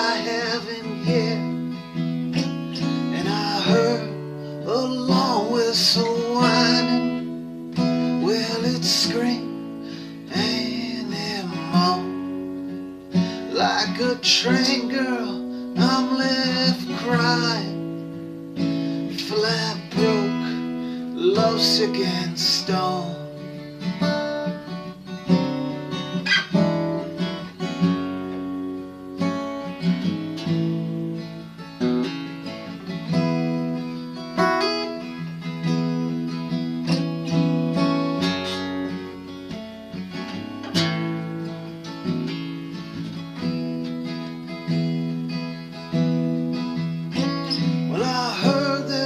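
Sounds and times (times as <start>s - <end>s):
acoustic guitar strumming: 0.0s - 49.0s.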